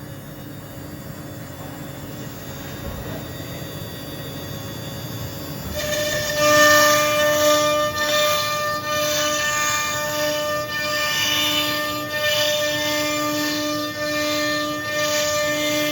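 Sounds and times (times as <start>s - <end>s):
router spindle whine: 0.0s - 15.9s.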